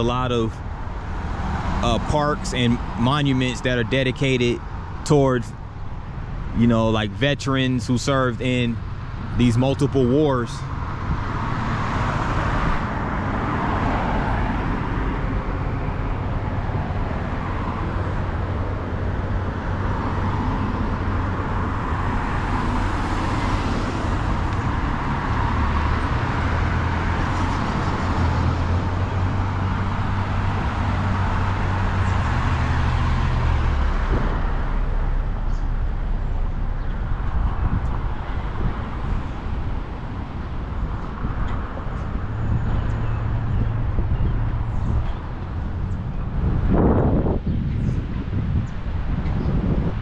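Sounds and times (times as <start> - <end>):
deep engine rumble: 0.0 - 13.6, 14.2 - 50.0
vehicles passing: 0.0 - 50.0.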